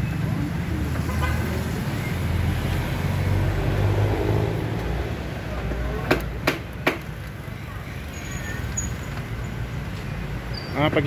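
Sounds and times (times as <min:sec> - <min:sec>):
low rumble of vehicle noise: 0:00.0 - 0:11.0.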